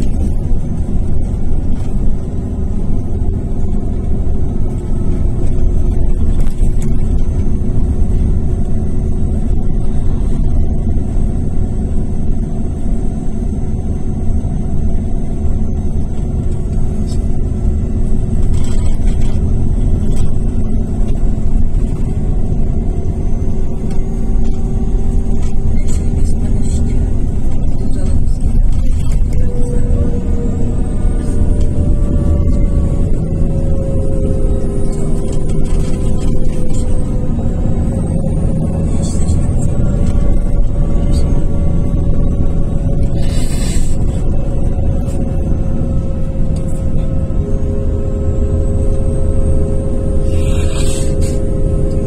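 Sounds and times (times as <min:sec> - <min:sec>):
diesel bus engine rumble: 0:00.0 - 0:52.0
road noise: 0:00.0 - 0:52.0.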